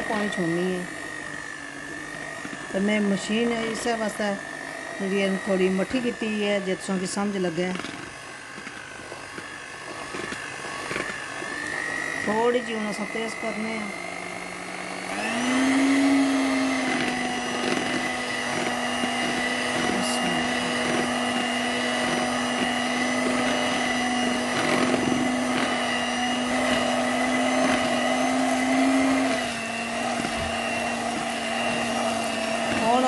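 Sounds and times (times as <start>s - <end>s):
electric mixer motor whining: 0.0s - 33.0s.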